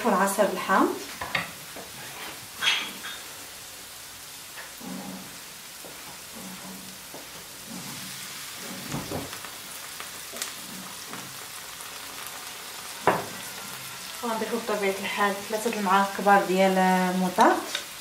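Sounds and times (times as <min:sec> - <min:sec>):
onions sizzling in a frying pan: 0:00.0 - 0:18.0.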